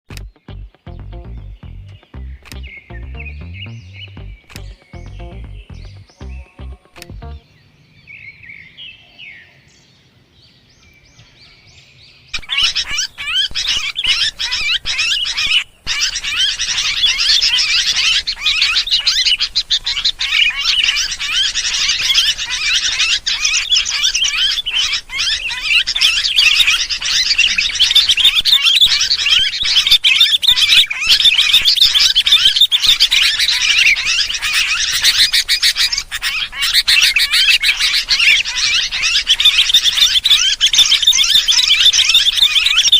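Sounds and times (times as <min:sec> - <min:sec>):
flock of birds chattering: 0:02.0 - 0:42.9.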